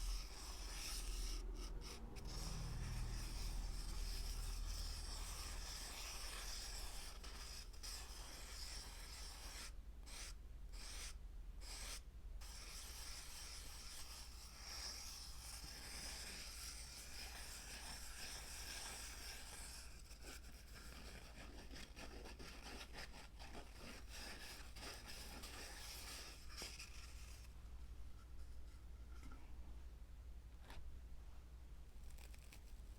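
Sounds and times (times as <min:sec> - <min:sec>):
scratching on a surface: 0:00.0 - 0:27.6, 0:32.0 - 0:32.9.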